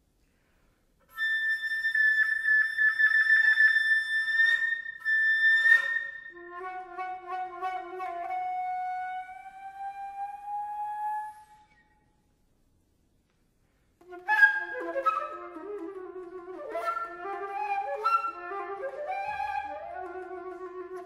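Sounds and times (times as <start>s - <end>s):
flute playing: 1.1s - 12.1s, 14.0s - 21.0s.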